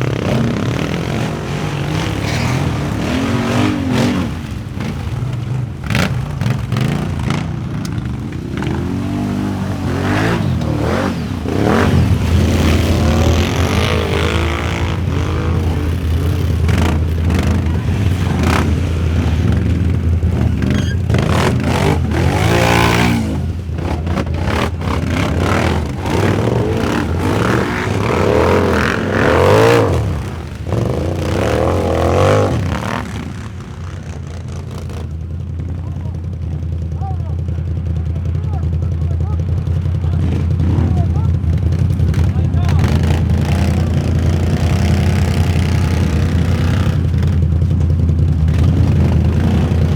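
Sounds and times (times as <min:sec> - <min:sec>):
atv engines revving: 0:00.0 - 0:49.9.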